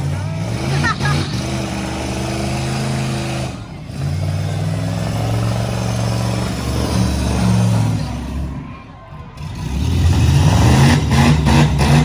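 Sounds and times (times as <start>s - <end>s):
truck engines running hard: 0.0s - 12.0s.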